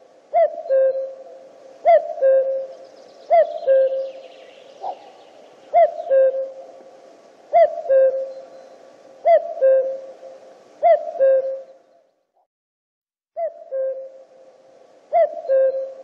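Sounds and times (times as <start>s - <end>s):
cuckoo calling: 0.3s - 6.9s, 7.5s - 12.1s, 13.4s - 14.5s, 15.1s - 16.0s.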